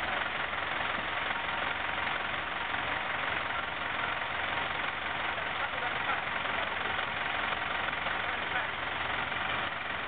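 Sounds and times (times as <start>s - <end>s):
crane engine rumbling: 0.0s - 10.0s.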